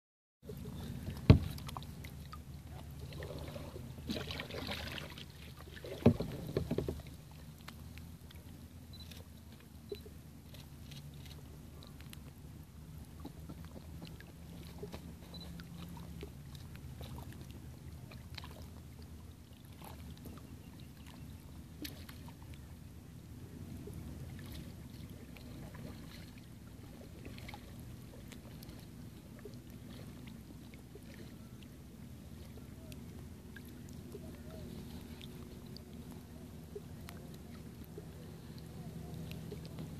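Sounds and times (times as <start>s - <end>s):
light clicks and small splashes: 0.4s - 39.9s
ripples lapping at water's edge: 0.4s - 39.9s
faint low hum: 0.5s - 39.9s.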